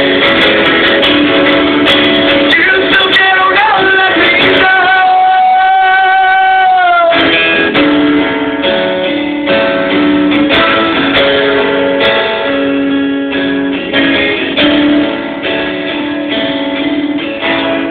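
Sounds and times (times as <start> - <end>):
acoustic guitar arpeggio: 0.0 - 17.9.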